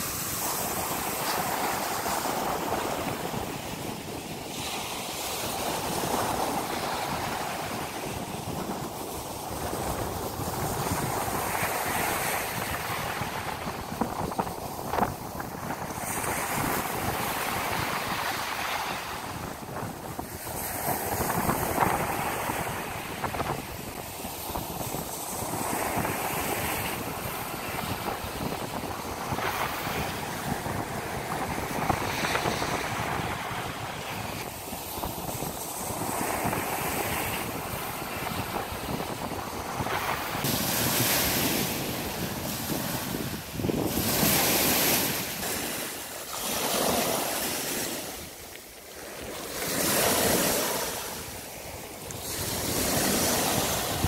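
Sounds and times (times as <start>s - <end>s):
surf breaking on beach: 0.0s - 54.0s
wind: 0.0s - 54.0s.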